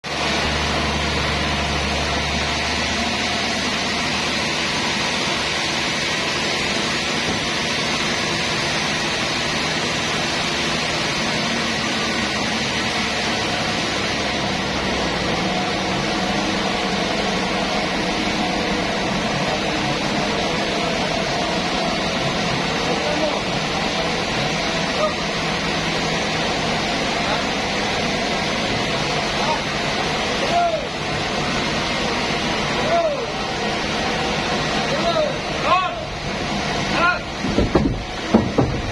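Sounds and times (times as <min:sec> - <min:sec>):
low mechanical hum: 0:00.0 - 0:38.9
loud machinery hiss: 0:00.1 - 0:38.9.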